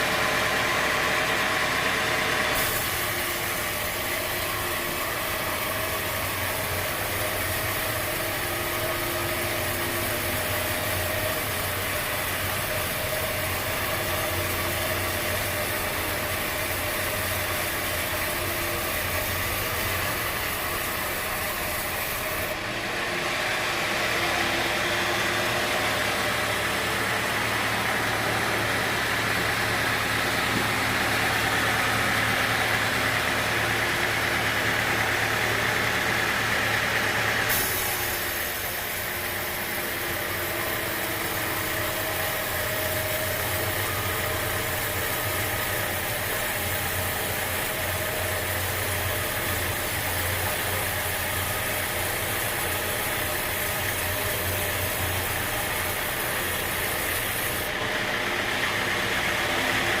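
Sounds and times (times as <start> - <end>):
machinery humming: 0.0 - 60.0.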